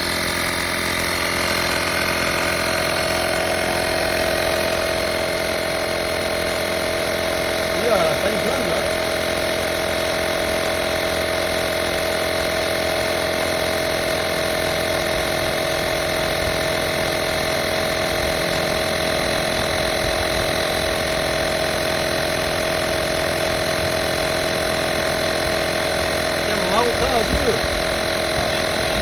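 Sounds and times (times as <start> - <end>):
tyre compressor humming: 0.0 - 29.0.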